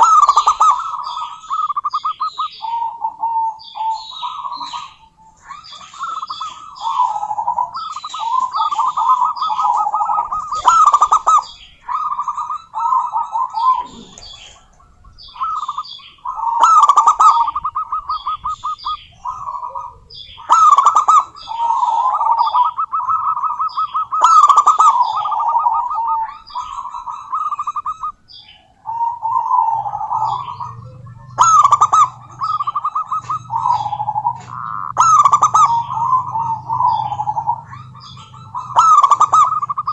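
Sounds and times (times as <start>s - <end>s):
dove staccato cooing: 0.0s - 39.9s
high-pitched bird chirping: 0.0s - 39.9s.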